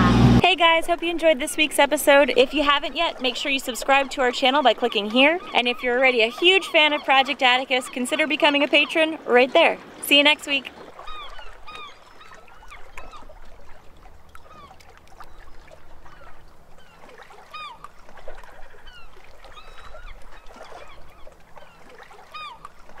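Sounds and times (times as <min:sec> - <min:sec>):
birds chirping: 0:00.8 - 0:13.5, 0:14.3 - 0:17.9, 0:18.6 - 0:22.6.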